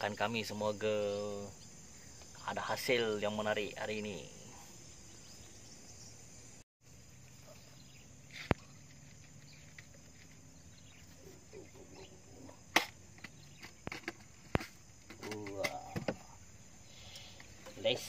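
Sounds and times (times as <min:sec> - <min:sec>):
insect chorus buzzing: 0:00.0 - 0:18.0.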